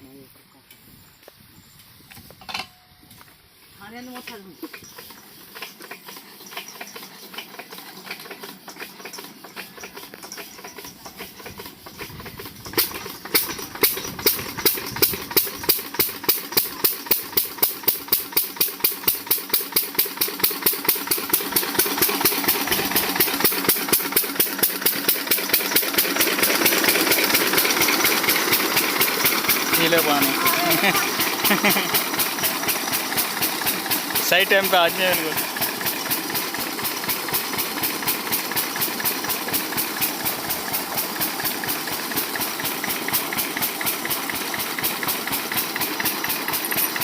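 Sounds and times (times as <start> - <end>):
engine turning over ticking: 3.8 - 47.0
diesel engine exhaust beats: 8.8 - 47.0.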